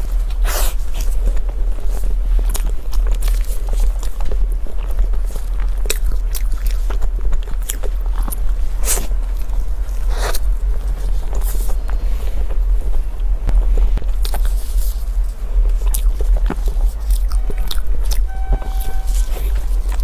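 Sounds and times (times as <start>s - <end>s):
crunchy biting and chewing: 0.0s - 18.3s
steady low hum: 0.0s - 20.0s.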